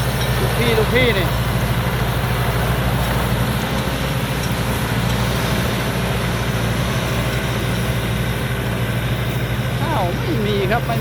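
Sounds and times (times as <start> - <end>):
combine harvester engine drone: 0.0 - 11.0
threshing machinery clatter: 0.0 - 11.0.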